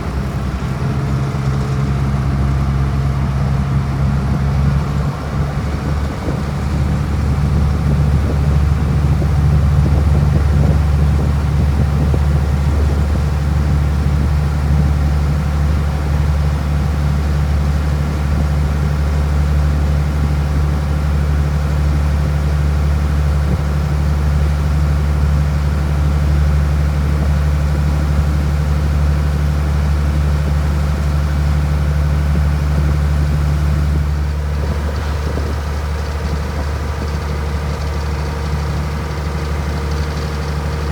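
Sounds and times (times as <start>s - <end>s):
boat engine drone: 0.0s - 40.9s.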